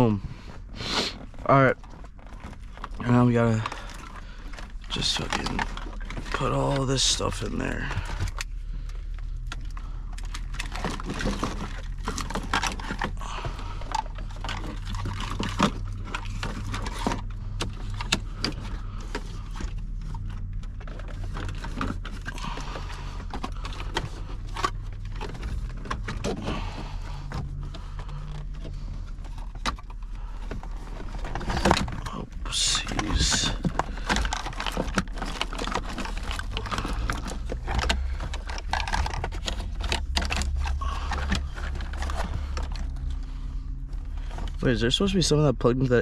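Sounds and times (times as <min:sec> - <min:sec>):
wiring and connectors rattling: 0:00.0 - 0:46.0.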